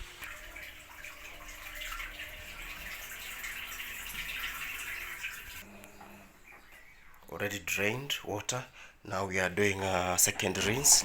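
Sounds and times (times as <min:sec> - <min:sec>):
washing machine draining water: 0:00.0 - 0:08.6, 0:09.8 - 0:11.0.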